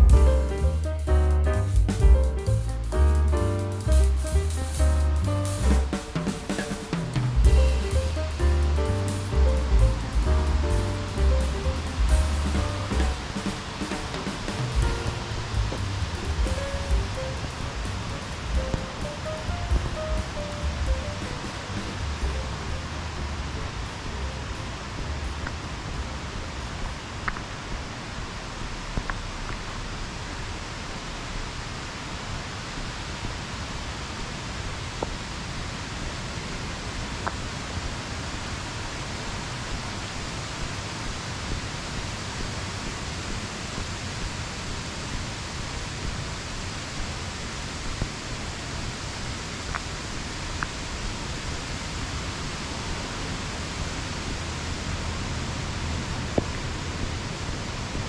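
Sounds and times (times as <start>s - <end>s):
low rushing noise: 0.0s - 58.0s.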